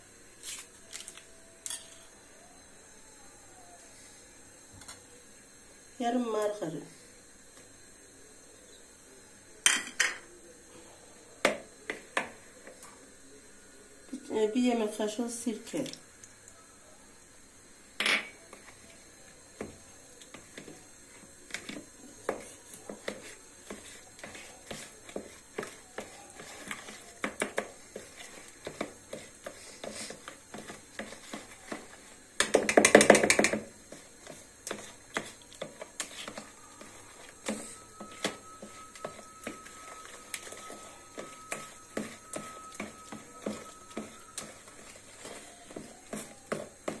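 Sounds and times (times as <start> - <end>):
faint steady tone: 0.0 - 32.2, 35.6 - 47.0.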